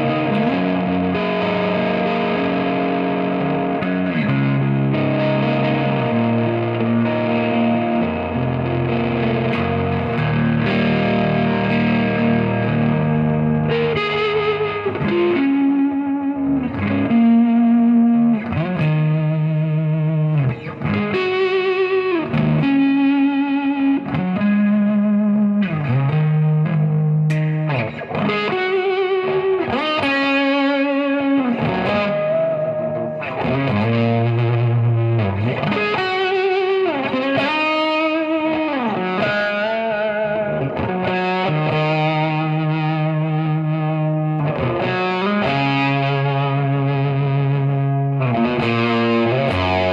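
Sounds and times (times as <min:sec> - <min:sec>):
overdriven electric guitar: 0:00.0 - 0:49.9.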